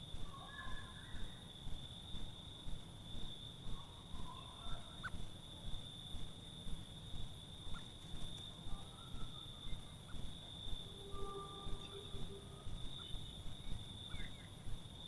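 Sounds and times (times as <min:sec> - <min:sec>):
cricket high-pitched tone: 0:00.0 - 0:15.0
soft low pulsing rumble: 0:00.0 - 0:15.0.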